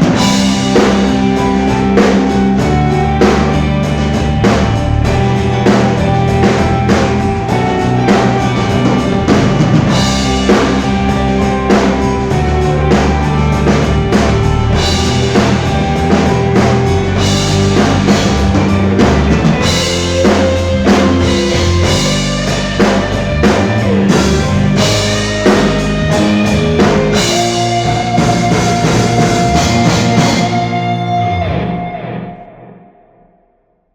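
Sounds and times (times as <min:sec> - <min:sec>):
drum hits: 0:00.0 - 0:31.0
rock band playing live: 0:00.0 - 0:32.7
held guitar chord ringing: 0:00.1 - 0:32.3.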